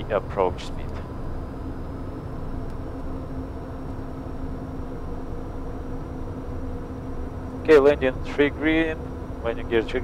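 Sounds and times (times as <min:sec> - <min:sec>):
faint high whine: 0:00.0 - 0:10.0
jet cockpit airflow and engine noise: 0:00.0 - 0:10.0.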